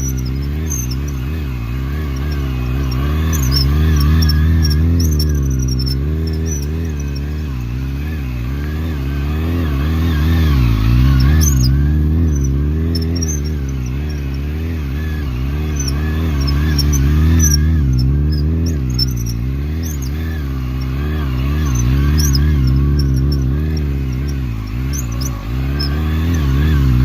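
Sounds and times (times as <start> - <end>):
motorcycle engine at low revs: 0.0 - 27.0.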